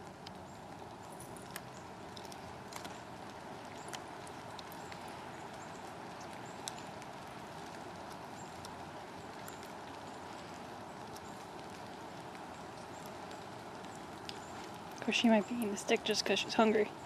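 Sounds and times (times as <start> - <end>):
puppy gnawing on stick: 0.0 - 16.0.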